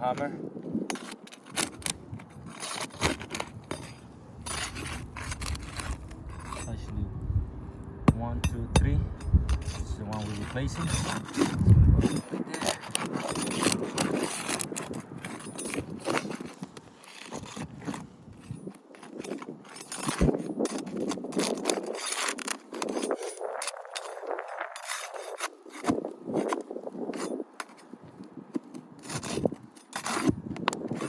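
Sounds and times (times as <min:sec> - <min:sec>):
pry bar scraping shingles: 0:00.2 - 0:06.8, 0:08.1 - 0:31.0.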